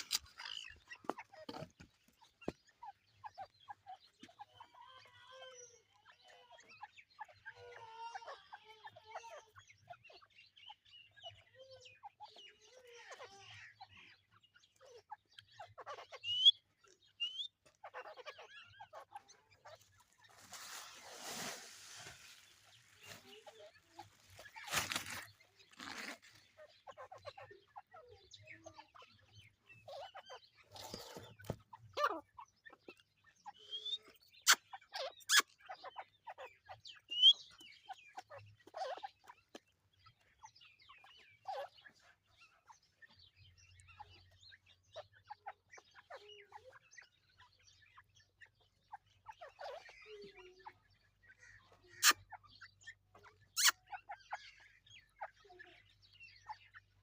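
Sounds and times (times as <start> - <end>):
partridge clucks and chirps: 0.0 - 57.0.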